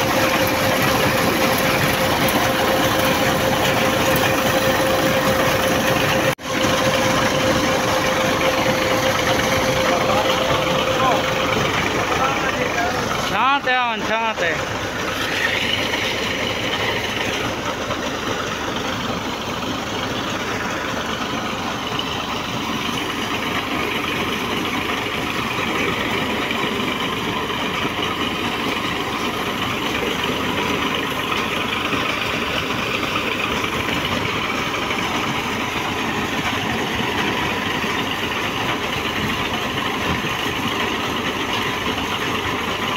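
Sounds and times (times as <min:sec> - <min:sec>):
drilling rig engine running: 0:00.0 - 0:42.9
water gushing and splashing: 0:00.0 - 0:42.9.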